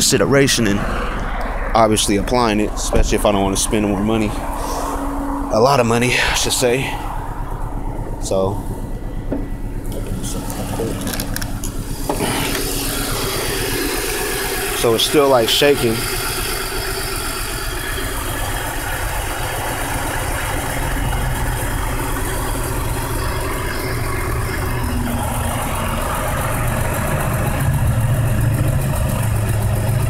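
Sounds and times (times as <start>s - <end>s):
car engine idling roughly: 0.0s - 30.0s.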